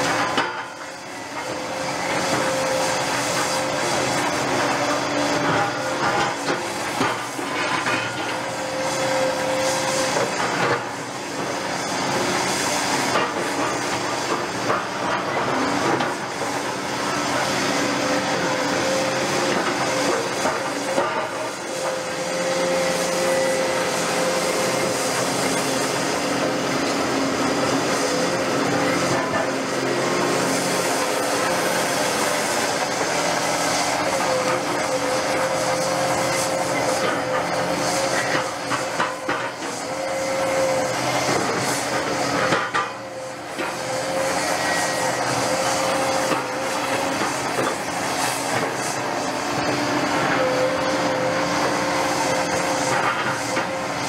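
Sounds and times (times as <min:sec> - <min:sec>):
excavator engine drone: 0:00.0 - 0:54.0.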